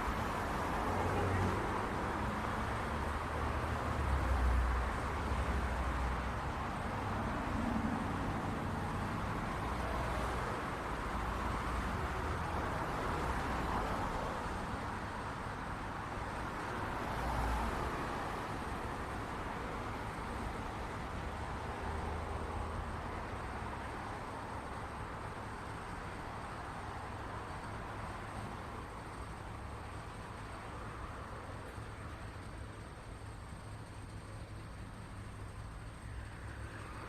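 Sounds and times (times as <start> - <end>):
city traffic noise: 0.0 - 37.0.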